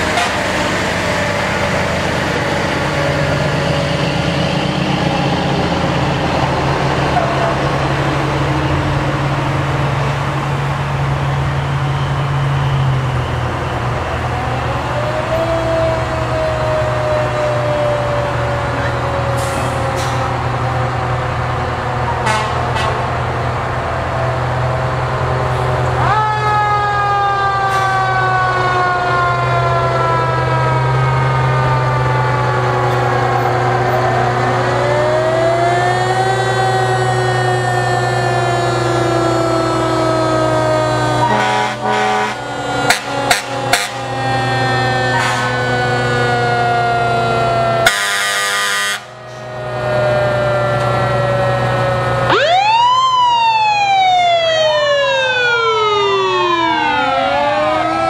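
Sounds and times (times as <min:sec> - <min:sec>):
fire truck engines droning: 0:00.0 - 0:58.0
sirens wailing: 0:00.0 - 0:58.0.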